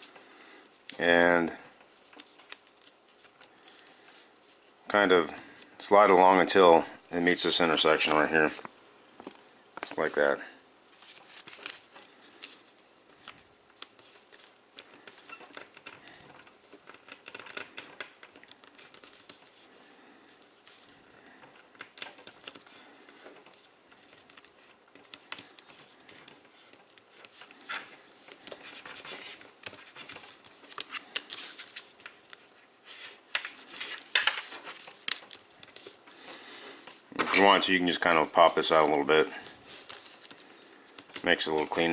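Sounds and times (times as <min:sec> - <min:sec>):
stiff paper rustling and crinkling: 0:00.0 - 0:05.7, 0:09.8 - 0:41.9.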